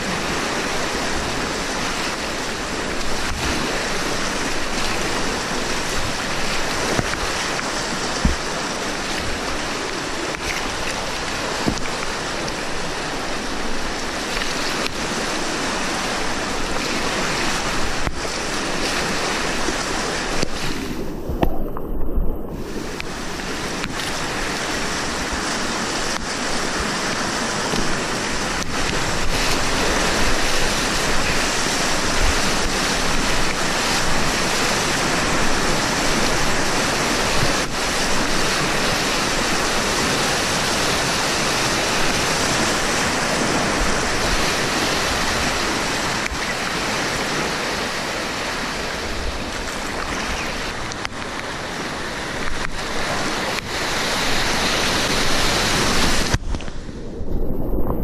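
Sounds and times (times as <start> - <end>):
river rapids roaring: 0.0 - 57.0.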